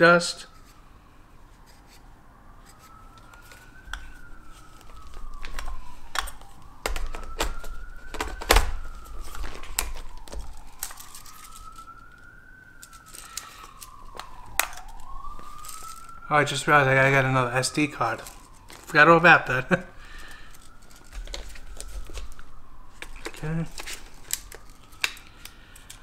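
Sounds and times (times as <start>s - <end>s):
siren wailing: 0.0s - 26.0s.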